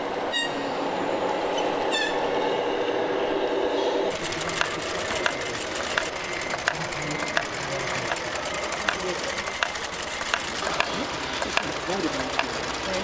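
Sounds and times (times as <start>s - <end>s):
model steam engines chattering: 0.0s - 13.0s
model train rolling on track: 0.0s - 13.0s
wheels squealing: 0.0s - 13.0s.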